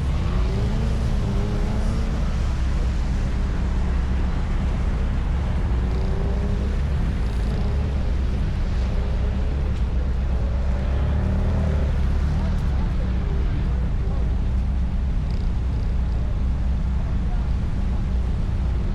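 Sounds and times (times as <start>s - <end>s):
car engine accelerating: 0.0s - 18.9s
heavy low rumble: 0.0s - 18.9s.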